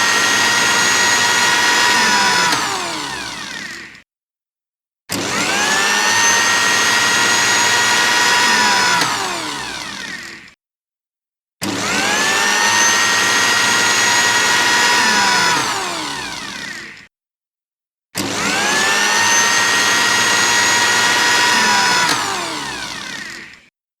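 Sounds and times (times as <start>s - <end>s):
blender motor whine: 0.0s - 4.0s, 5.1s - 10.6s, 11.6s - 17.1s, 18.2s - 23.7s.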